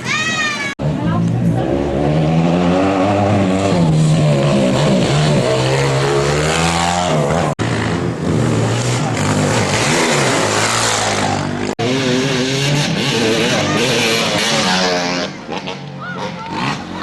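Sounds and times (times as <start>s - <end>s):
motorcycle engines revving: 0.8s - 17.0s.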